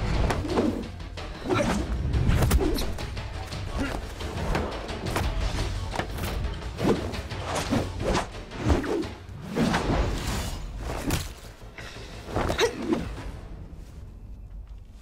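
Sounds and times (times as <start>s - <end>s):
soundtrack music: 0.0s - 15.0s.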